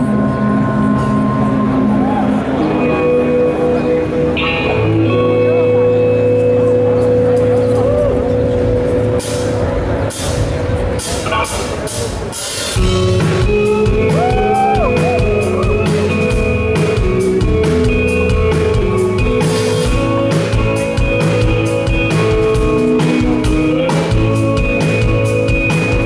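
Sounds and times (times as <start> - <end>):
live indie rock band playing: 0.0 - 26.0.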